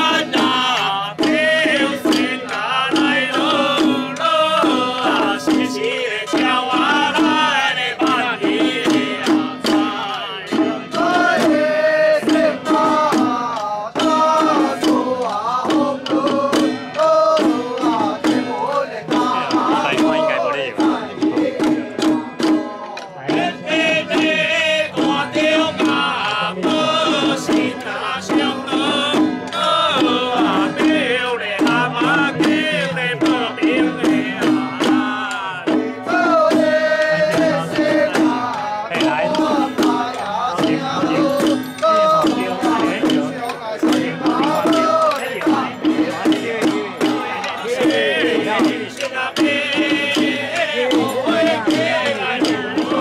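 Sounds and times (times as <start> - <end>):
fast hand-held percussion beat: 0.0 - 53.0
ritual chanting in wavering voices: 0.0 - 53.0.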